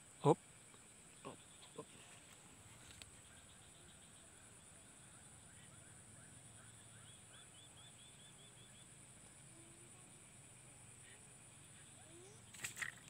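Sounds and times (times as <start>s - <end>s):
faint high-pitched hiss: 0.0s - 13.0s
faint bird chirps: 0.2s - 13.0s.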